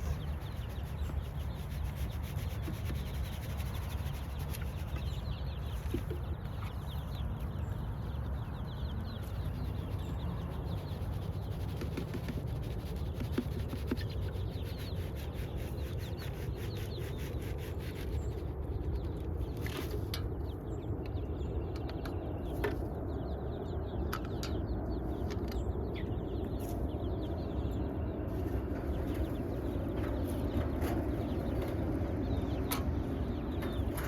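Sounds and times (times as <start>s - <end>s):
chicks cheeping faintly: 0.0s - 34.0s
steady low rumble: 0.0s - 34.0s.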